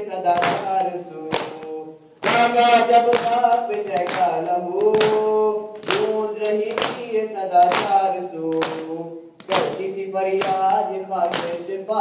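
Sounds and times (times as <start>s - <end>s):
men chanting a lament: 0.0s - 12.0s
rhythmic chest-beating: 0.0s - 12.0s.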